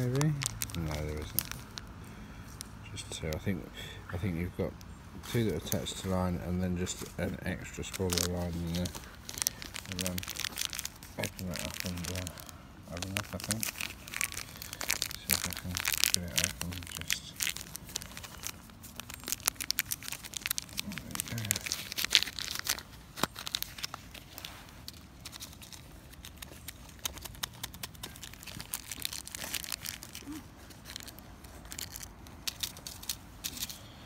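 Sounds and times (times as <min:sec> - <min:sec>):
plastic bag being opened: 0:00.0 - 0:01.9, 0:05.2 - 0:33.8
tin foil crinkling: 0:00.0 - 0:34.0.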